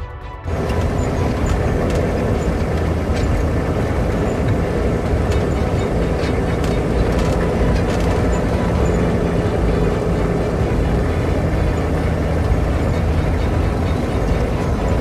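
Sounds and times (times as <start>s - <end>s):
heavy truck engine rumble: 0.2s - 15.0s
tyres on gravel: 0.5s - 15.0s
vehicle body rattles: 0.5s - 15.0s.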